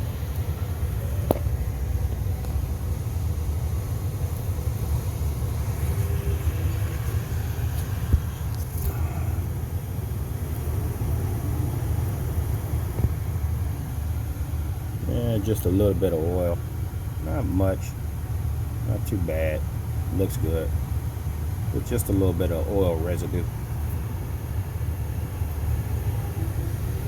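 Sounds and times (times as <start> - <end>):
machinery rumbling: 0.0 - 27.0.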